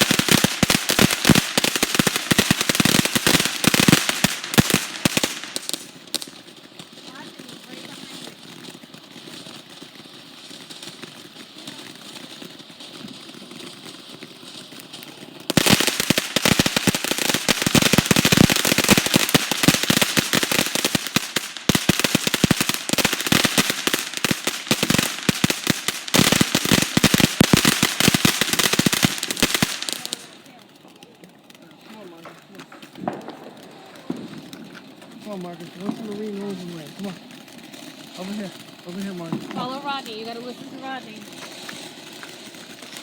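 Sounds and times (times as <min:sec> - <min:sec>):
firecrackers popping: 0:00.0 - 0:43.0.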